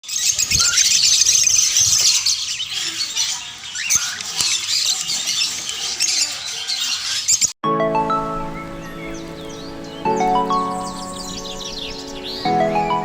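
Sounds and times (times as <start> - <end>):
flock of small birds chirping: 0.0 - 7.6, 8.2 - 13.0.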